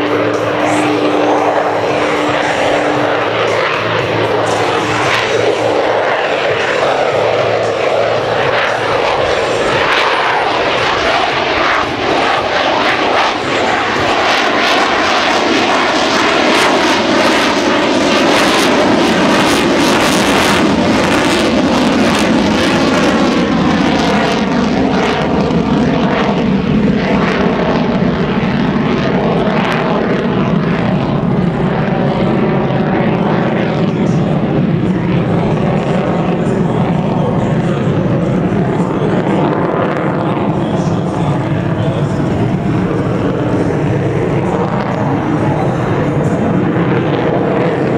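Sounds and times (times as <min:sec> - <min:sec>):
jet engine roaring in afterburner: 0:00.0 - 0:47.9.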